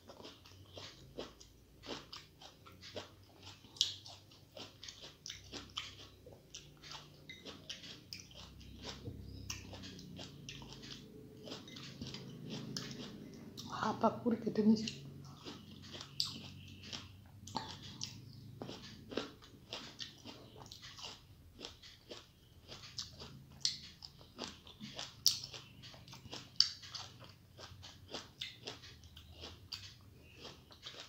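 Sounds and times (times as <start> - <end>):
person chewing grapes: 0.0 - 31.0.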